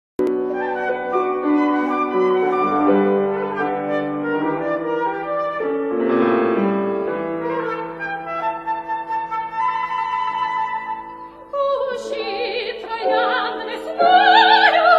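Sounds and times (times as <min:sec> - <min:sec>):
instrumental classical accompaniment: 0:00.2 - 0:14.9.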